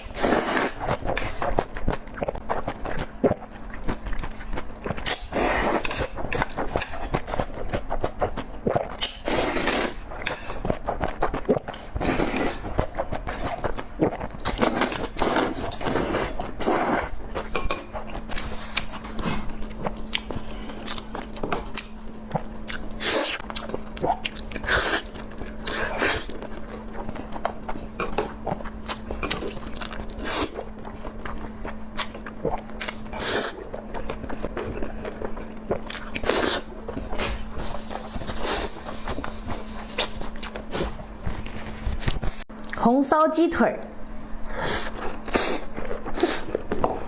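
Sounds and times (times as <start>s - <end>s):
chewing and biting food: 0.0s - 42.8s.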